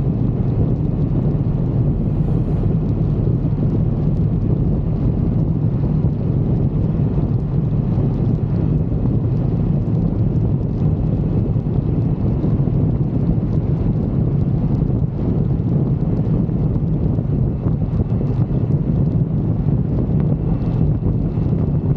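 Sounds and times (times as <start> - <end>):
motorcycle engine drone: 0.0 - 21.9
wind noise on microphone: 0.0 - 21.9.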